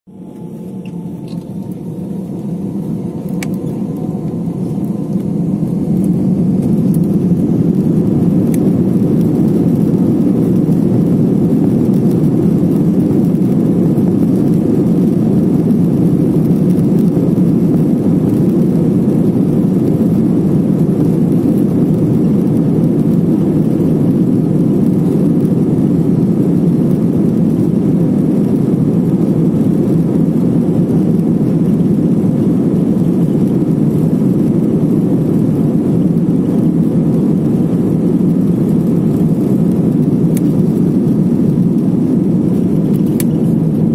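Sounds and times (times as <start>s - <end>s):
jet engines from inside cabin: 0.1s - 43.9s.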